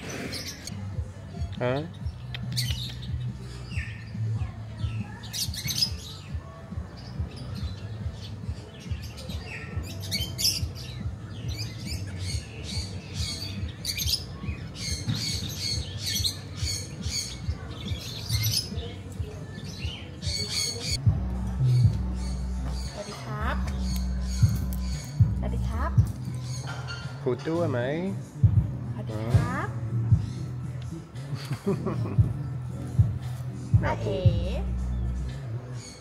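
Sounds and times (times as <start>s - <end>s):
background music: 0.0s - 36.0s
birds squawking and chirping: 0.0s - 36.0s.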